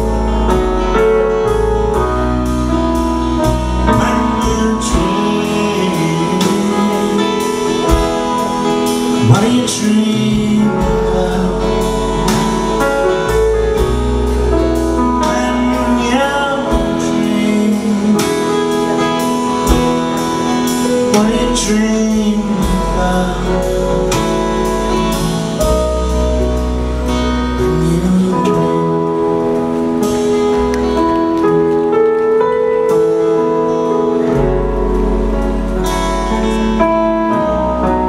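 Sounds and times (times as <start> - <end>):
acoustic guitar: 0.0 - 38.0
drums: 0.0 - 38.0
piano: 0.0 - 38.0
upright bass: 0.0 - 38.0.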